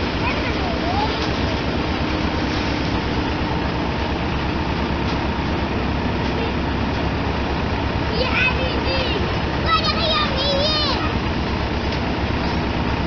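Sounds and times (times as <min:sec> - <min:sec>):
tractor engine throb: 0:00.0 - 0:13.0.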